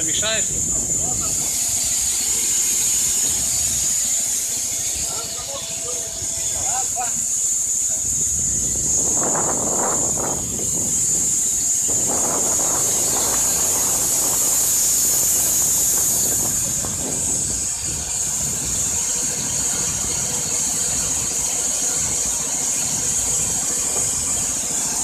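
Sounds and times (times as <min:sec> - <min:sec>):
high-pitched hiss: 0:00.0 - 0:25.0
petrol engine running: 0:00.0 - 0:25.0.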